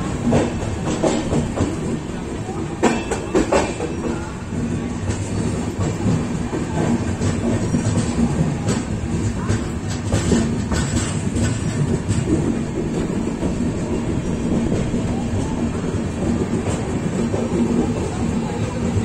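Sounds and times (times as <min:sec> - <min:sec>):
train wheels rumbling on rail: 0:00.0 - 0:19.0
wheels clacking over rail joints: 0:00.0 - 0:19.0.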